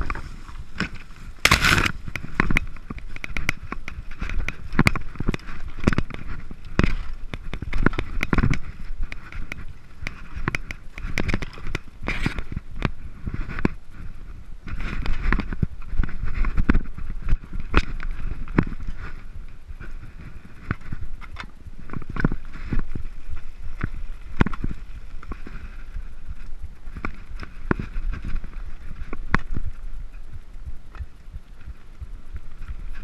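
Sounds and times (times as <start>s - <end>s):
bike knocking and rattling: 0.0s - 33.0s
bike tyres rumbling over stones: 0.0s - 33.0s.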